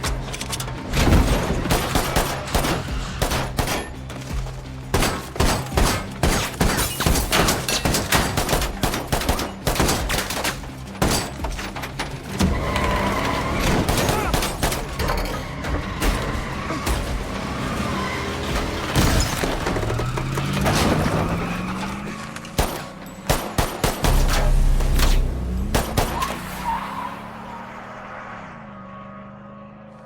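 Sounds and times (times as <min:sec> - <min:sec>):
dramatic score music: 0:00.0 - 0:28.0.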